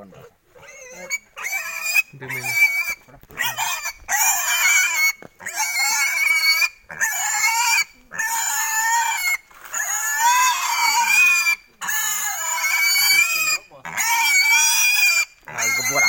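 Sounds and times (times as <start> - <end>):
pig squealing: 0.0 - 16.0.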